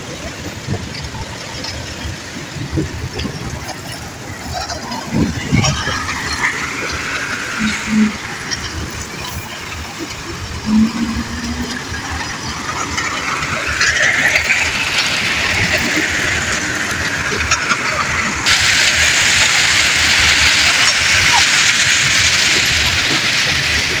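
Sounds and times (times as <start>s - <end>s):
loud steady hiss: 2.2s - 24.0s.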